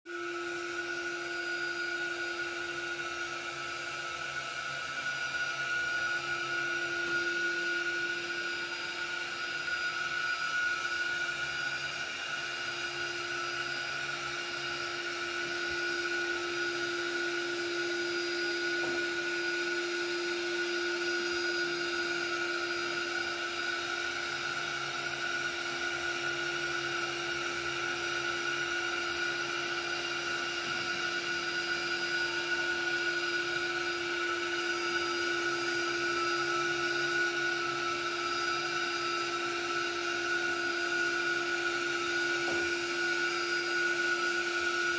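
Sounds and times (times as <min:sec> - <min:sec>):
window cleaning robot suction fan whine: 0:00.1 - 0:44.9.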